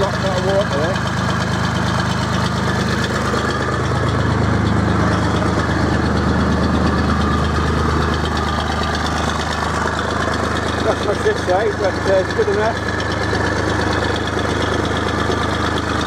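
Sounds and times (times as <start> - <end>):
road roller diesel engine idling: 0.0 - 16.0
water pump running: 0.0 - 16.0.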